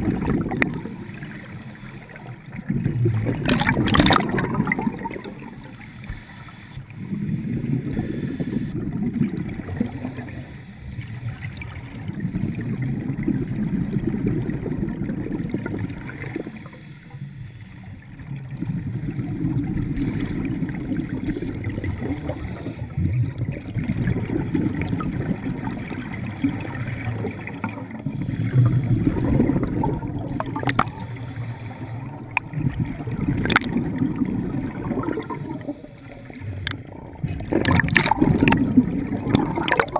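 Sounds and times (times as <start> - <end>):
diver exhaling bubbles underwater: 0.0 - 1.4, 2.2 - 5.8, 7.0 - 10.5, 11.5 - 16.6, 18.4 - 39.9.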